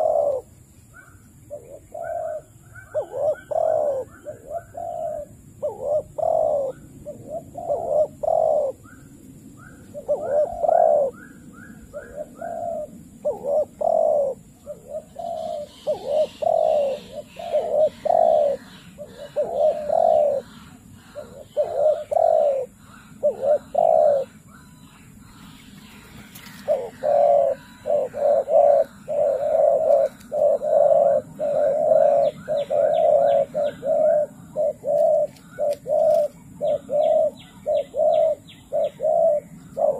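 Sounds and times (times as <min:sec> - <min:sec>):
birds twittering: 0:00.0 - 0:39.9
doves cooing: 0:00.0 - 0:39.9.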